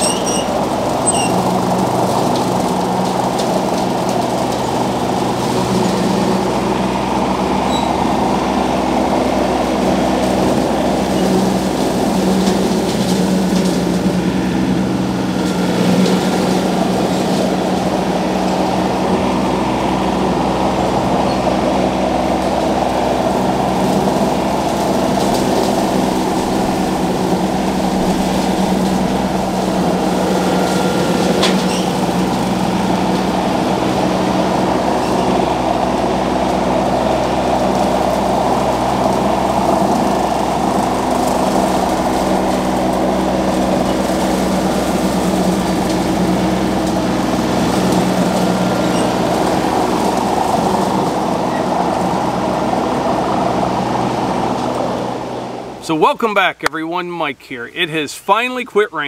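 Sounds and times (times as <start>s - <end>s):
rotary cutter mowing grass: 0.0s - 55.8s
tractor diesel engine under load: 0.0s - 59.0s.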